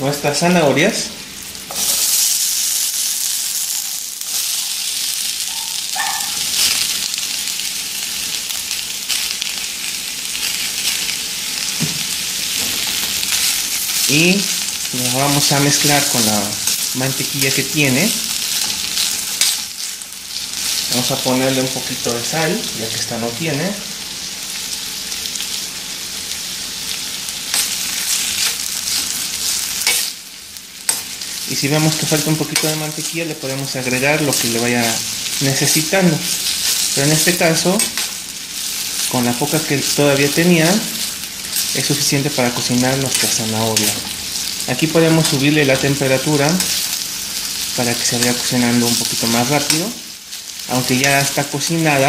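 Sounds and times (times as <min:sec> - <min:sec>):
vegetables sizzling in a frying pan: 0:00.0 - 0:52.0.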